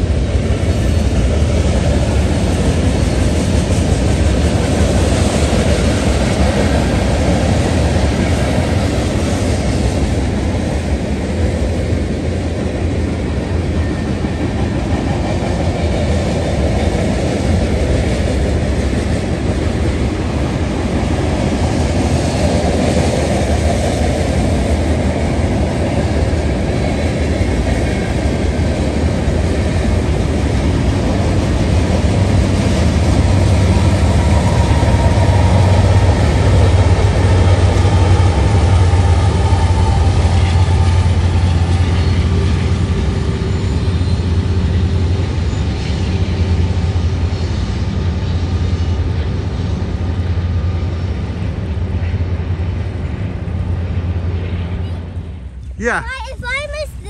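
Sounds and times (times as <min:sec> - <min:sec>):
wheels rattling on rails: 0:00.0 - 0:55.8
diesel locomotives humming: 0:00.0 - 0:57.0
freight train rumbling past: 0:00.0 - 0:57.0.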